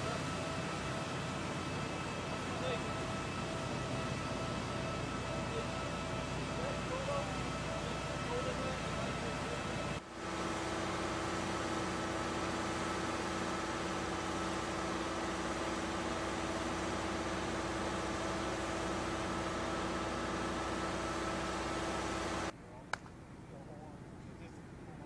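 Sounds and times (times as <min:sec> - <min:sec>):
engine droning: 0:00.0 - 0:23.1.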